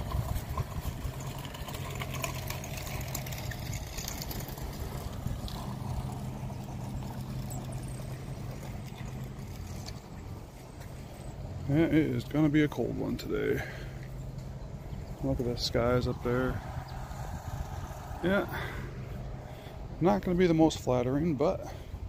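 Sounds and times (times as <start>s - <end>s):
engine idling hum: 0.0s - 22.0s
outdoor background noise: 0.0s - 22.0s.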